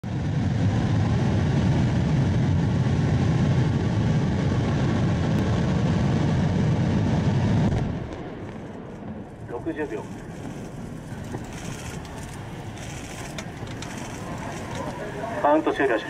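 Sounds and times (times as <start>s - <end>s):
explosion: 0.0s - 14.8s
rocket engine roaring: 0.0s - 16.0s.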